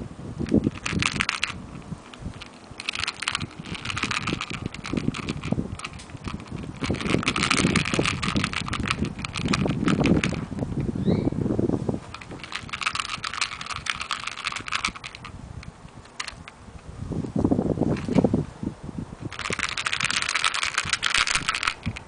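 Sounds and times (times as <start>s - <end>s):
kitten claws scratching and clicking: 0.4s - 10.9s, 12.1s - 16.6s, 17.9s - 18.3s, 19.3s - 22.0s.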